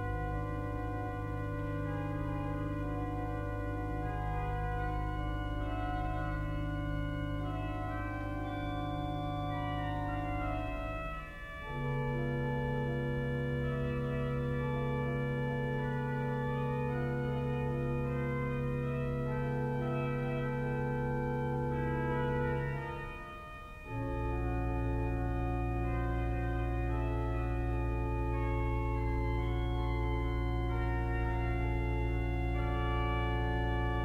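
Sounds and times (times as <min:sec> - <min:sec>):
pipe organ playing chords: 0:00.0 - 0:34.0.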